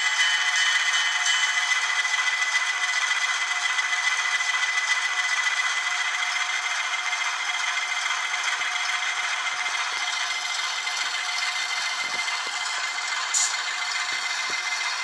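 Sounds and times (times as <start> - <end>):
thin diesel engine sound from small speaker: 0.0 - 15.0.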